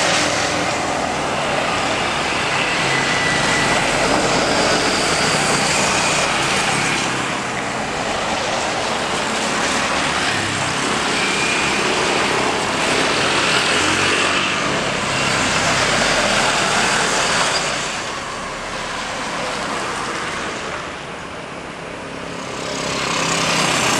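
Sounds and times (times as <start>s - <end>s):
jet engines rushing: 0.0s - 23.9s.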